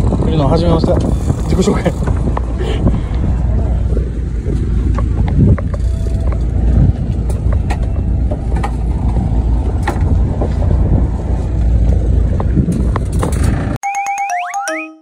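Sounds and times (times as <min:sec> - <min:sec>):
boat engine rumble: 0:00.0 - 0:13.8
wind noise on microphone: 0:00.0 - 0:13.8.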